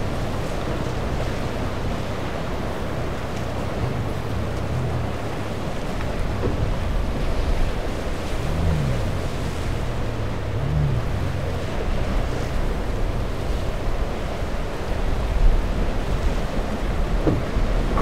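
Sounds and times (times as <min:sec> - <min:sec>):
outboard engines revving: 0:00.0 - 0:18.0
surf breaking around a boat: 0:00.0 - 0:18.0.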